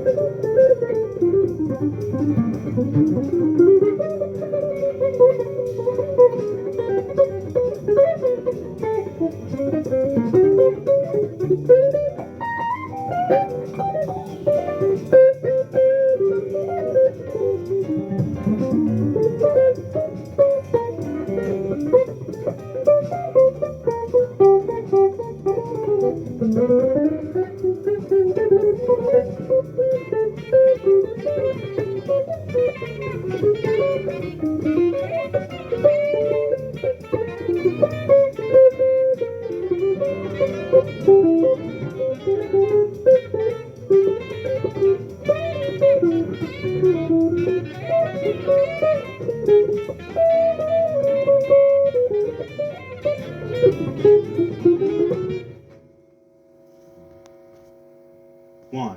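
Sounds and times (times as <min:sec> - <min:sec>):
jazz guitar melody: 0:00.0 - 0:57.7.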